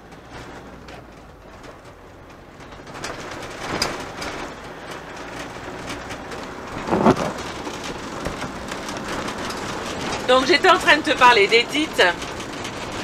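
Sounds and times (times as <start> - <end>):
engine and road noise in vehicle cabin: 0.0 - 13.0.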